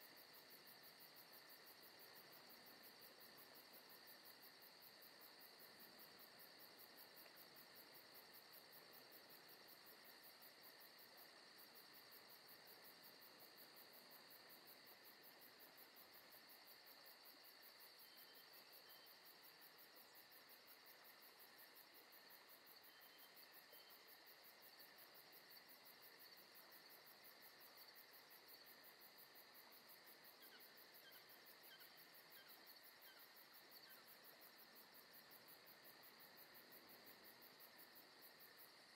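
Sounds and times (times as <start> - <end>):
faint high-pitched hiss: 0.0 - 38.9.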